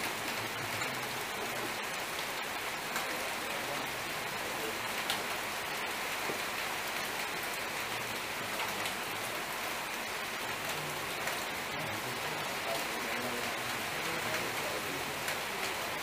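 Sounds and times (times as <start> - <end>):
steady crackling hiss: 0.0 - 16.0.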